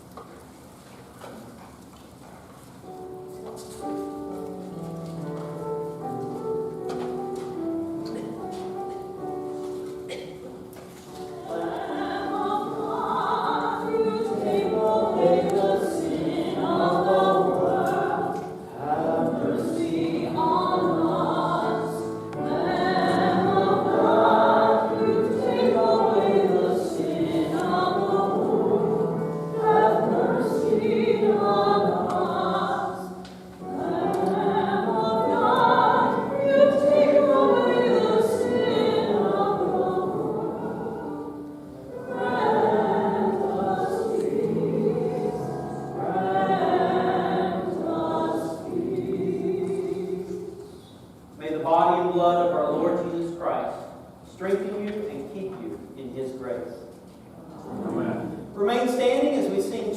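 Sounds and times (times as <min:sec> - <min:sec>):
choir singing sacred music: 0:02.9 - 0:54.2, 0:55.2 - 0:59.9.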